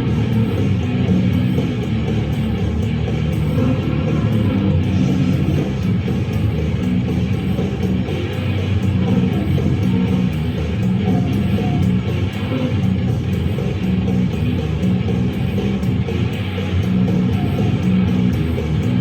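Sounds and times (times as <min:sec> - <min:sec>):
heavy metal music with electric guitar: 0:00.0 - 0:19.0.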